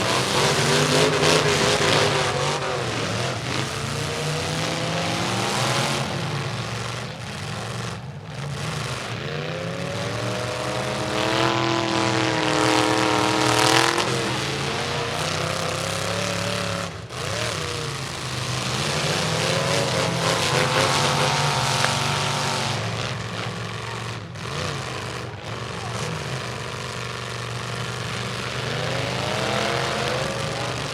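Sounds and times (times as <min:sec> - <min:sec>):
drone of engines: 0:00.0 - 0:30.9
truck engines revving: 0:00.0 - 0:30.9.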